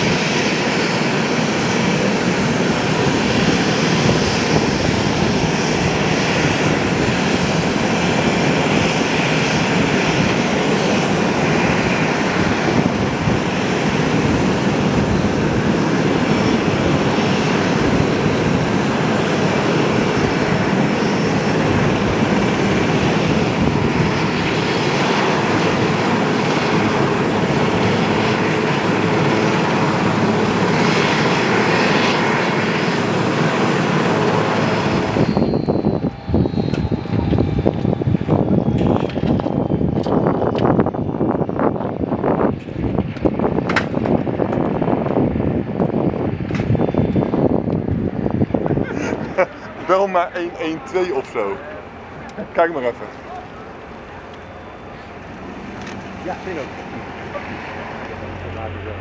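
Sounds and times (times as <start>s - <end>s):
high steady engine whine: 0.0s - 59.0s
turbofan engines running: 0.0s - 59.0s.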